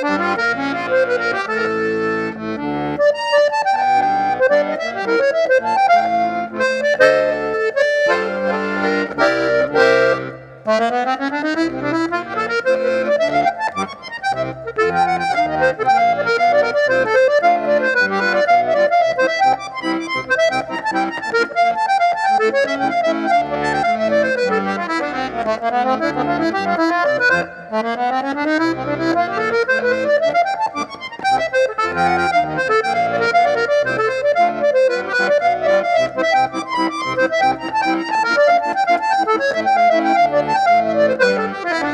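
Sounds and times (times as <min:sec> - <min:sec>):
accordion playing fast melody: 0:00.0 - 0:41.9.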